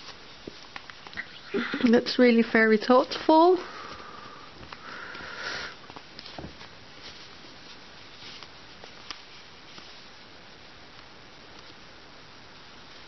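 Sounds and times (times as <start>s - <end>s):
fabric rustling: 0.0s - 11.9s
steady background hiss: 0.0s - 13.0s.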